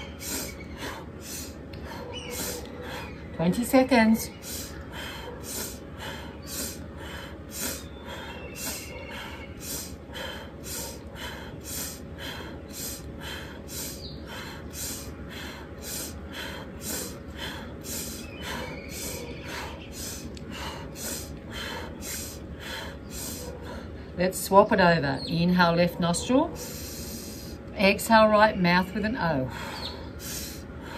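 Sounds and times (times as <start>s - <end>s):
rapid rhythmic breathing: 0.0s - 24.6s, 25.5s - 27.8s, 29.2s - 30.9s.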